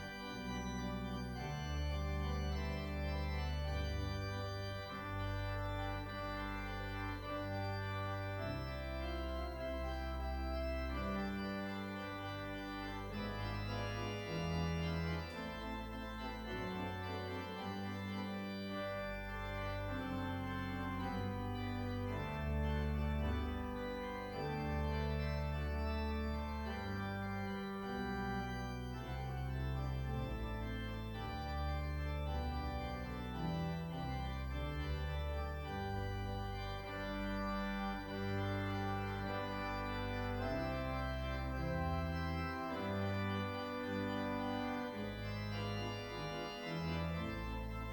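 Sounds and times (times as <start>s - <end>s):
organ chords: 0.0s - 47.9s.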